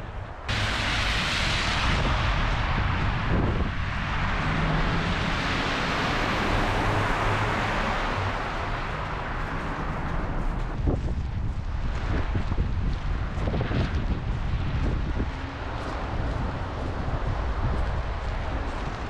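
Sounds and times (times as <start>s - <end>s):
strong wind rushing: 0.0s - 19.0s.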